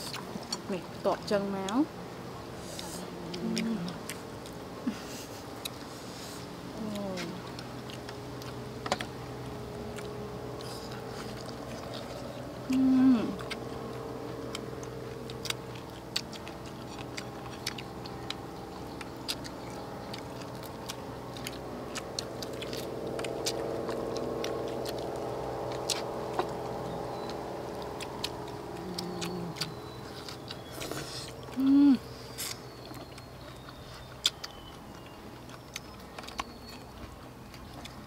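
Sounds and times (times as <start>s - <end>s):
people chewing and lip smacking: 0.0s - 1.9s, 2.6s - 38.0s
steady background hum: 0.0s - 38.0s.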